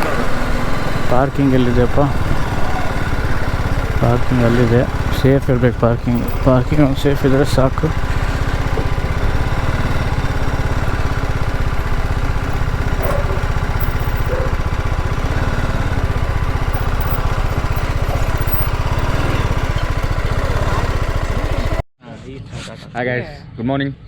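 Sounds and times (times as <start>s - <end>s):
motorcycle engine idling: 0.0s - 21.8s.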